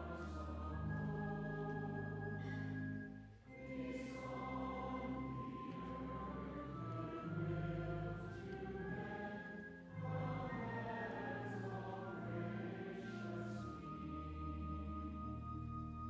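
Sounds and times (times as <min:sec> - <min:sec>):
choir singing held chords: 0:00.0 - 0:02.8, 0:03.5 - 0:15.7.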